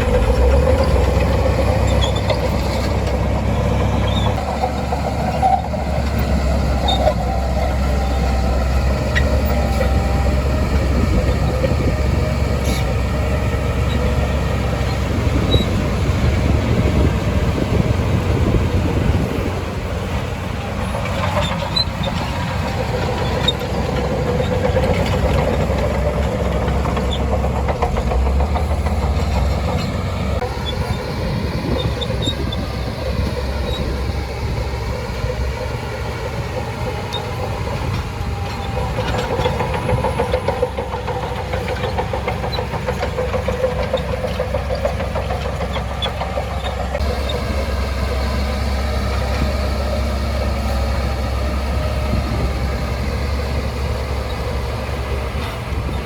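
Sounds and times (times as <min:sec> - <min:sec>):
bulldozer diesel engine labouring: 0:00.0 - 0:56.0.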